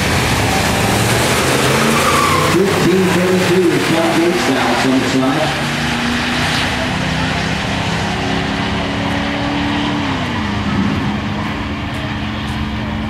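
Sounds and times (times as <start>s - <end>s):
drag car engines racing: 0.0s - 13.0s.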